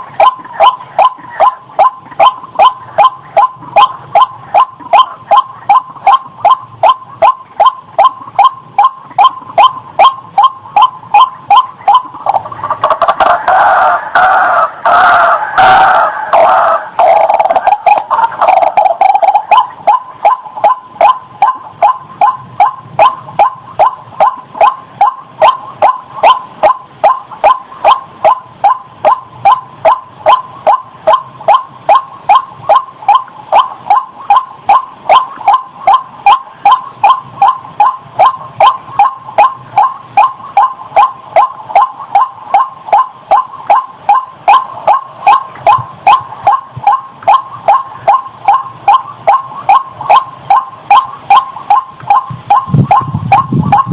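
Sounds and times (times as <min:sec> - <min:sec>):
waterhen calling: 0:00.0 - 0:53.9.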